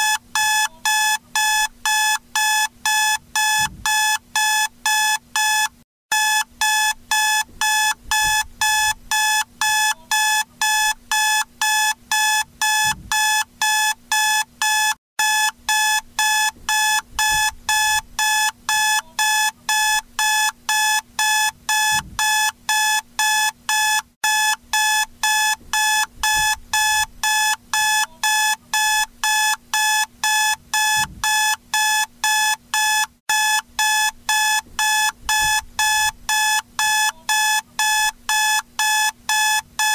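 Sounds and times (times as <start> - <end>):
alarm clock beeping: 0.0 - 39.9.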